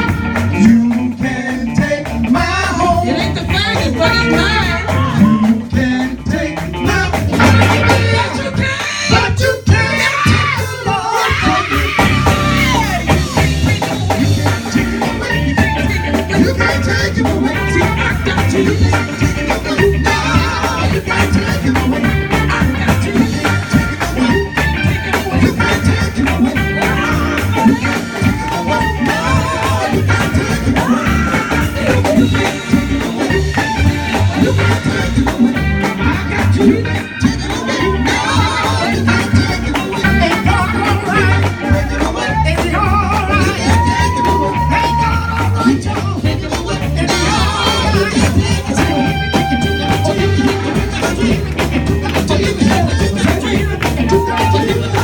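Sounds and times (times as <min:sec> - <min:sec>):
gospel band playing: 0:00.0 - 0:55.0
voices singing: 0:00.0 - 0:55.0.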